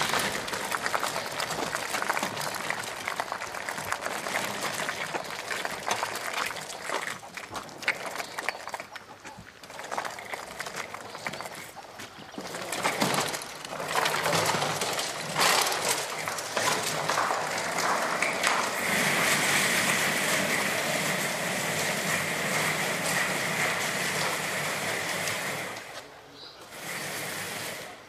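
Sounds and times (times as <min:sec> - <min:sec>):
robot electric motors running: 0:00.0 - 0:09.0, 0:09.6 - 0:28.0.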